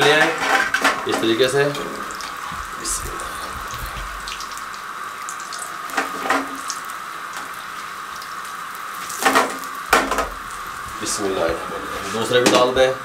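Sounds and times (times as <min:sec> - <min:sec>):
deep-frying sizzle: 0:00.0 - 0:13.0.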